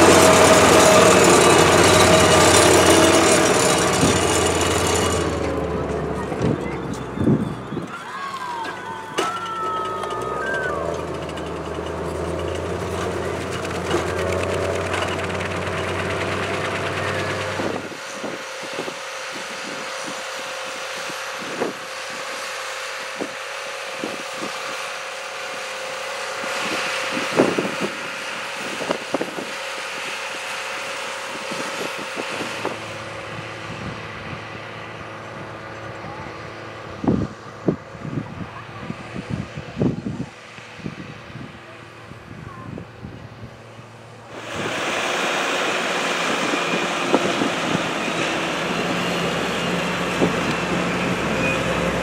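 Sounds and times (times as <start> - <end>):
tractor diesel engine drone: 0.0 - 52.0.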